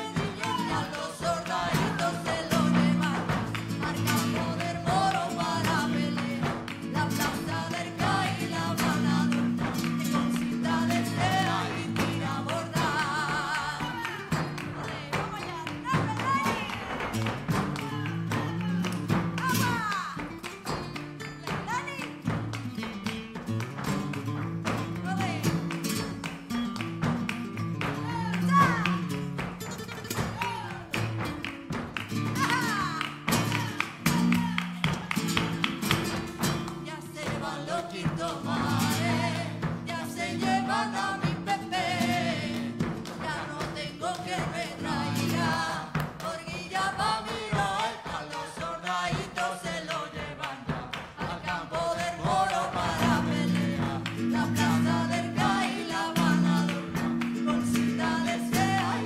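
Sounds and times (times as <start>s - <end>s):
flamenco guitar: 0.0s - 59.0s
hand-clapping: 0.0s - 59.0s.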